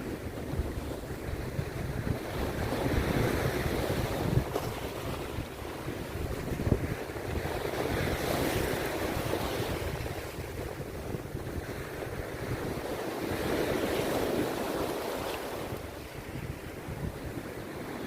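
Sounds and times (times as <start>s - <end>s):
sea surf breaking on beach: 0.0s - 18.0s
wind buffeting microphone: 0.0s - 18.0s.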